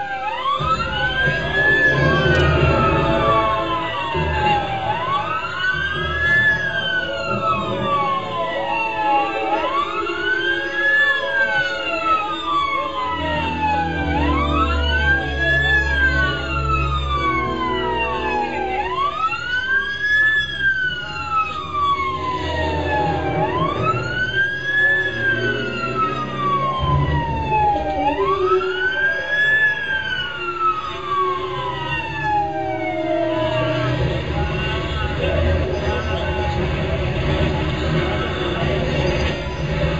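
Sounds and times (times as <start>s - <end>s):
second siren wailing: 0.0s - 39.9s
siren wailing: 0.0s - 39.9s.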